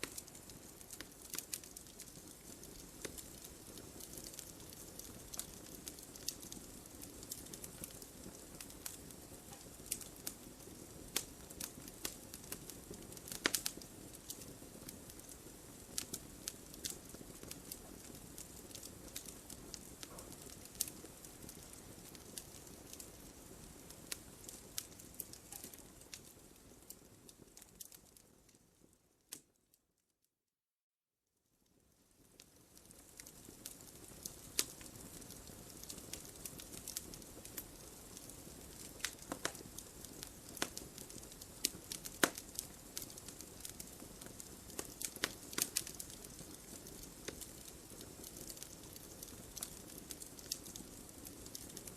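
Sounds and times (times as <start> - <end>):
fire rumbling: 0.0 - 28.9, 32.2 - 51.9
fire crackling and popping: 0.0 - 29.6, 31.6 - 51.9.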